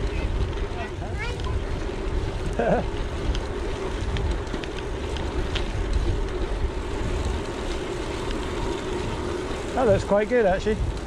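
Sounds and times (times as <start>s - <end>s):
tyres rolling on road: 0.0s - 11.0s
wind buffeting microphone: 0.0s - 11.0s.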